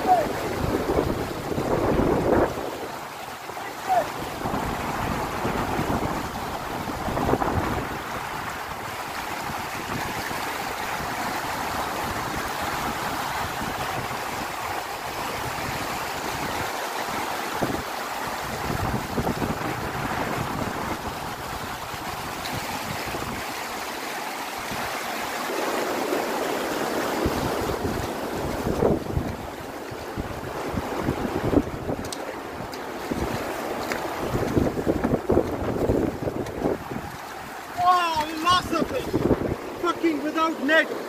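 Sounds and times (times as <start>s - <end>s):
stream rushing over stones: 0.0s - 41.0s.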